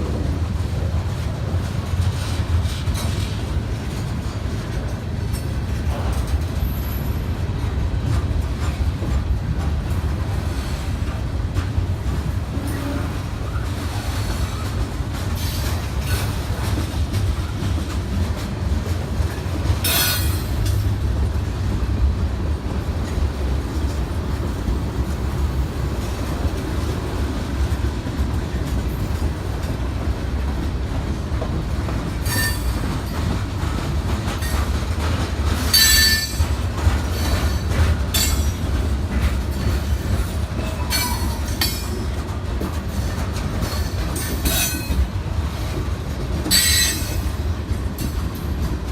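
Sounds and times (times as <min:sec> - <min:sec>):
railroad cars rumbling past: 0:00.0 - 0:48.9.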